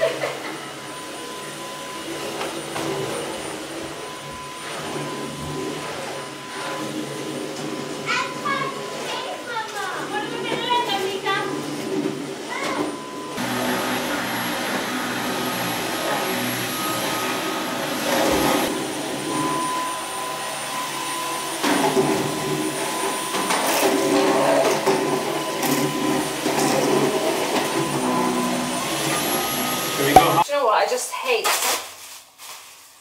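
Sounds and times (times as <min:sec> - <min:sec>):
vacuum cleaner motor whine: 0:00.0 - 0:30.5.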